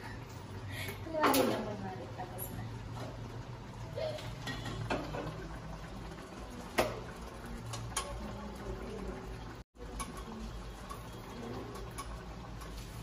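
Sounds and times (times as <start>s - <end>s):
sauce simmering in pan: 0.1s - 13.0s.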